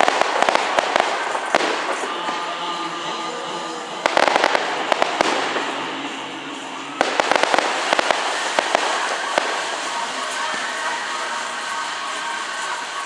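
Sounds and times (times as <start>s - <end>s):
fireworks crackling pops: 0.0s - 13.0s
fireworks hissing and fizzing: 0.0s - 13.0s.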